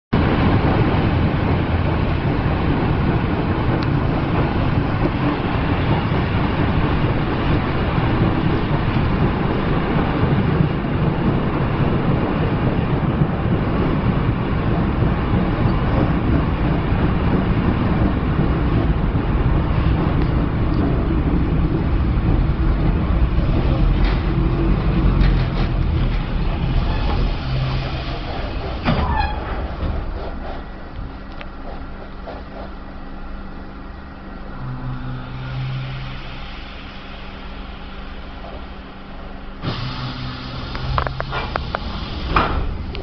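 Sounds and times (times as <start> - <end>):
train deep rumble: 0.1 - 43.0.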